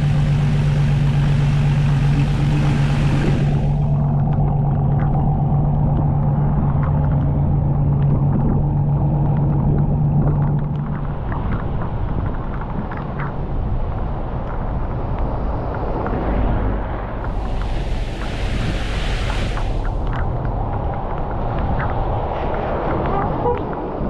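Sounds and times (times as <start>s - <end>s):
vehicle engine rumble from cabin: 0.0s - 24.0s.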